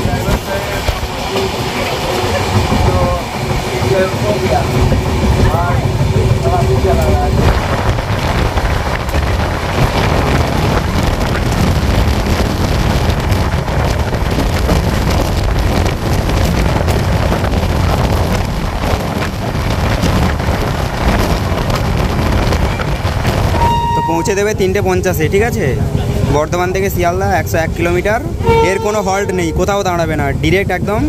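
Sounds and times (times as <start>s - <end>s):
train coaches rumbling on track: 0.0s - 31.0s
wind buffeting microphone: 0.0s - 31.0s.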